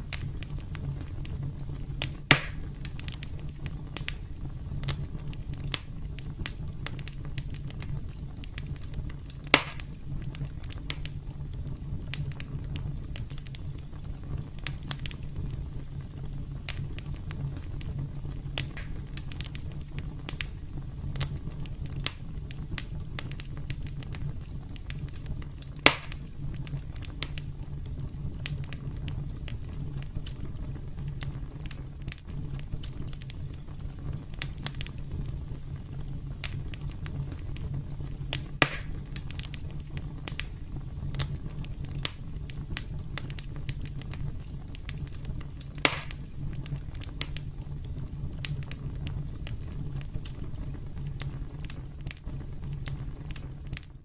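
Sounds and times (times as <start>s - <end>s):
sharp fire pops: 0.0s - 53.9s
campfire crackling: 0.0s - 54.0s.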